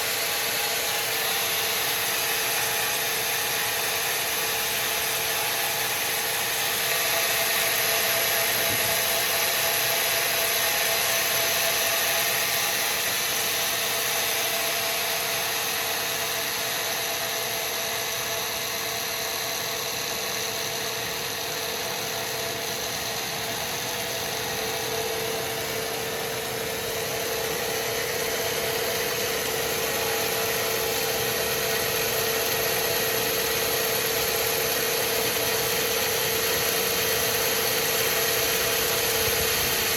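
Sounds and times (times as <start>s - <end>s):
bandsaw machinery running: 0.0s - 39.9s
high mechanical whine: 0.0s - 39.9s.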